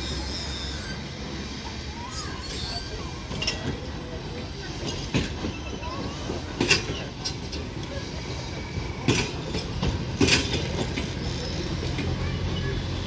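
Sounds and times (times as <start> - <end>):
train rumbling past: 0.0 - 13.0
wheels clacking on rails: 0.0 - 13.0.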